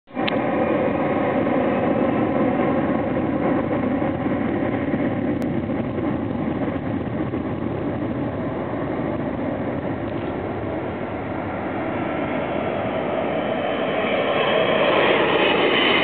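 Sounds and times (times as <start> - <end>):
engine rumble: 0.1 - 16.0.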